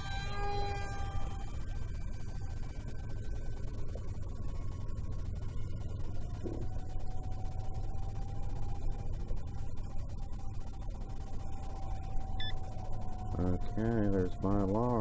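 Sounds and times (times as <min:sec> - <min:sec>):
faint thin whine: 0:00.0 - 0:15.0.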